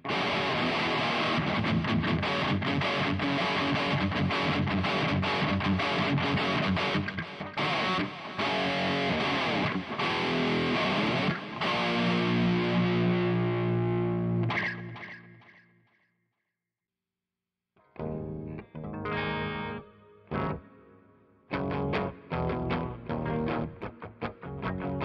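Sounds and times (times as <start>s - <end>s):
distorted electric guitar riffing: 0.0s - 15.4s, 18.0s - 20.9s, 21.5s - 25.0s.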